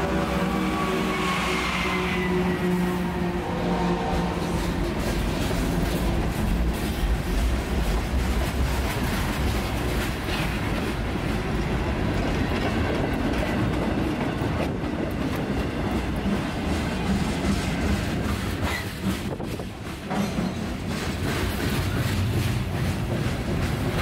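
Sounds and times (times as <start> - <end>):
freight train rumble: 0.0 - 24.0
train wheels clattering on rails: 4.0 - 24.0.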